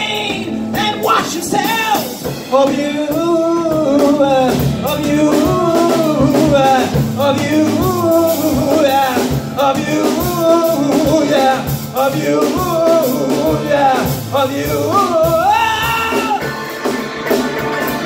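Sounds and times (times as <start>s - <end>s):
drum hits: 0.0s - 18.0s
rock band playing live: 0.0s - 18.0s.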